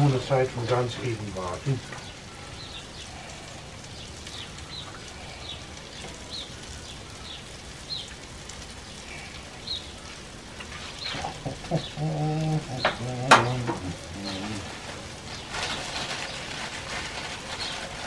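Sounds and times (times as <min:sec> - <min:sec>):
songbird chirping: 0:00.0 - 0:18.0
vegetables sizzling on a grill: 0:00.0 - 0:18.0.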